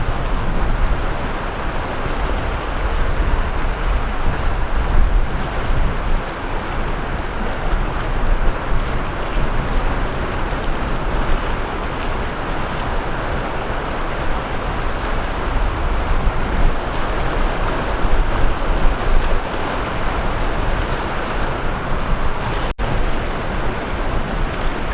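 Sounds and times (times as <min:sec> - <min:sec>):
sea waves breaking on shore: 0:00.0 - 0:24.9.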